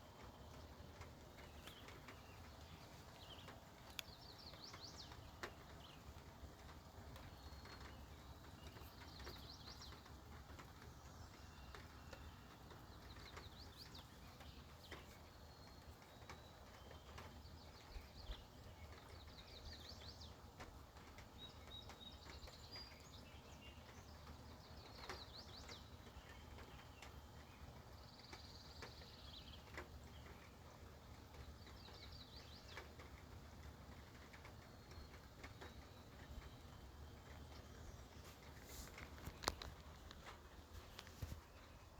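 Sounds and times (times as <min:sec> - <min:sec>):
outdoor background noise: 0:00.0 - 0:41.9
songbird singing: 0:00.0 - 0:41.9.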